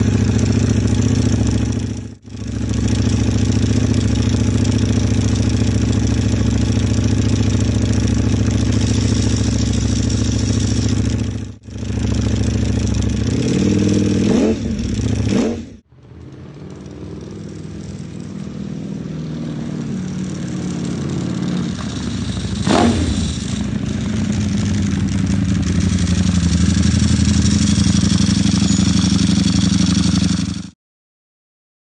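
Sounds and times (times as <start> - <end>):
motorcycle engine running loud: 0.0 - 30.8.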